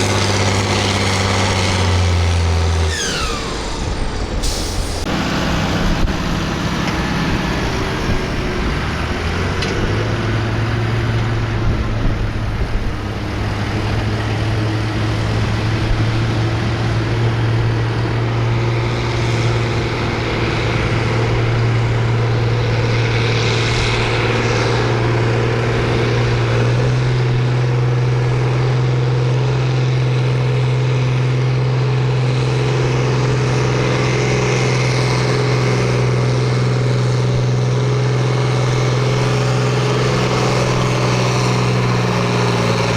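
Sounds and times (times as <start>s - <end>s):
tractor engine at high revs: 0.0s - 42.9s.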